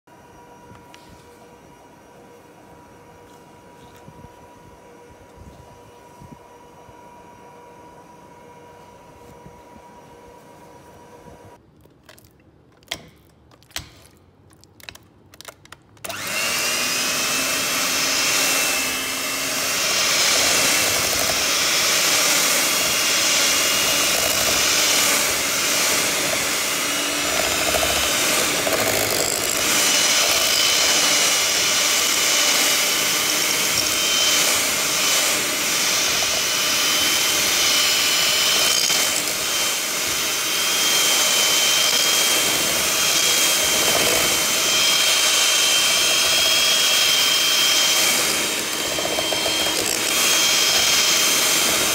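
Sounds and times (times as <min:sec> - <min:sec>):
electric hand mixer whirring: 0:00.1 - 0:11.6, 0:16.0 - 0:51.9.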